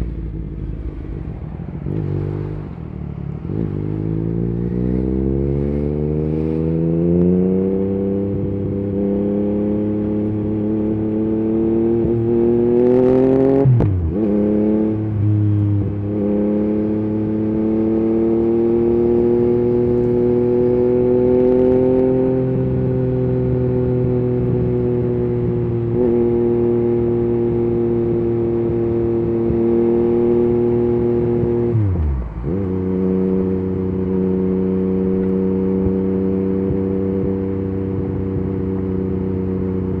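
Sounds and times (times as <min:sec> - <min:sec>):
motorcycle engine revving: 0:01.8 - 0:40.0.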